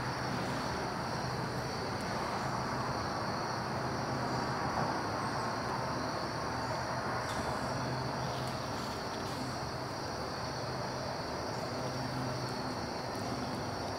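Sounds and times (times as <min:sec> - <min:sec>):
distant traffic rumble: 0:00.0 - 0:13.9.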